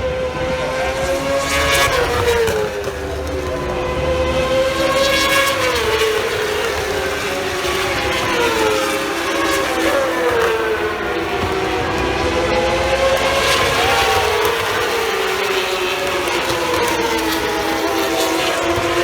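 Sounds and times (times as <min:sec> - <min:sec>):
racing motorcycles passing: 0:00.0 - 0:19.0.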